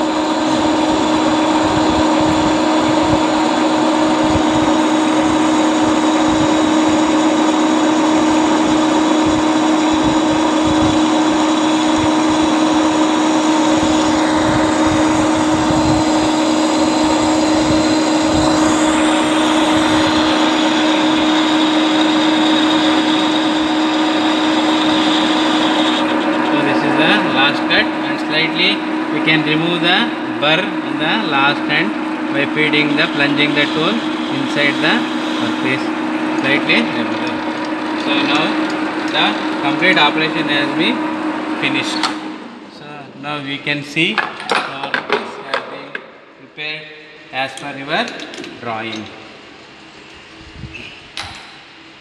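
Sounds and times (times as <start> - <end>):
lathe motor humming: 0.0 - 46.4.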